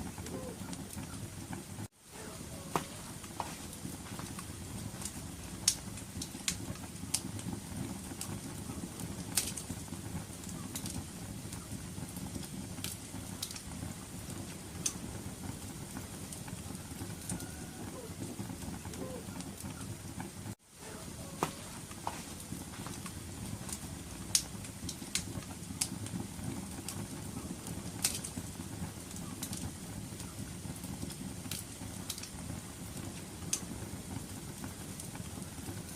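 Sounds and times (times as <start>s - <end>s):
fire rumbling: 0.0s - 35.9s
wood fire crackling and popping: 0.0s - 35.9s.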